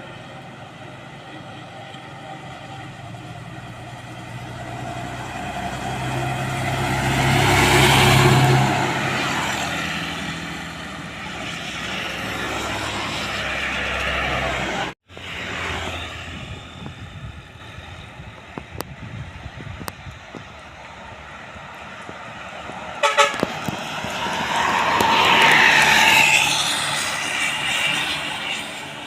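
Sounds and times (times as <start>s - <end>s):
truck driving past: 0.0s - 29.0s.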